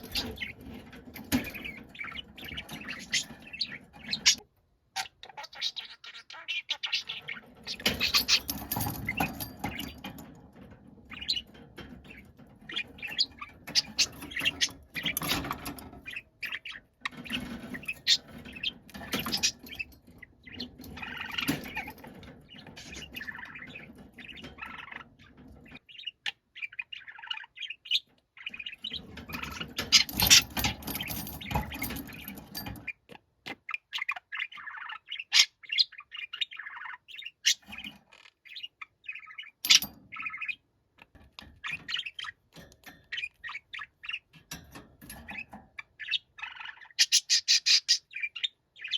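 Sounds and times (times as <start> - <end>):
budgerigar chirping and squawking: 0.0 - 10.3, 11.1 - 48.9.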